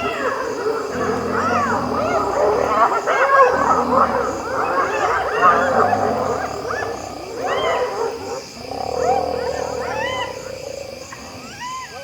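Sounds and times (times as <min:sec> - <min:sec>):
hyenas giggling and whooping: 0:00.0 - 0:12.0.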